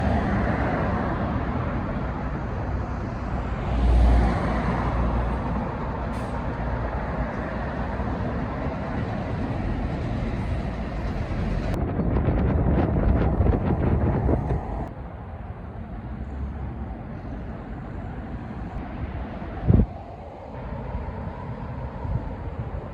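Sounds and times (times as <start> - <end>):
road traffic rumble: 0.0 - 22.9.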